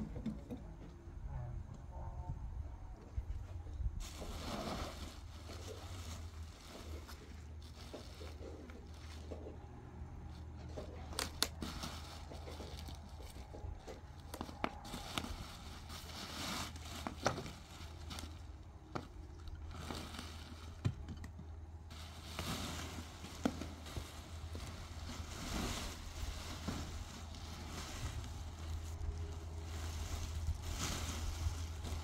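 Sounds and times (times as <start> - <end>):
low steady hum: 0.0 - 32.0
rustling and crinkling: 3.0 - 32.0.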